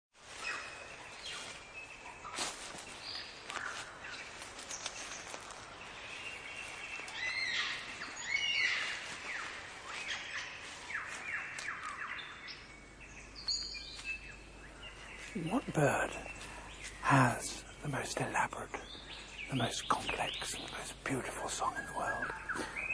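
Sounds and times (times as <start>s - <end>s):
lyrebird singing: 0.4s - 22.9s.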